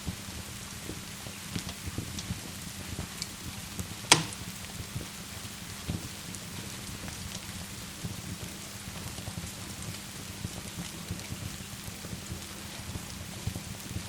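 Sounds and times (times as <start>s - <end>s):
rain falling: 0.0s - 14.0s
fireplace crackling and popping: 0.9s - 14.0s.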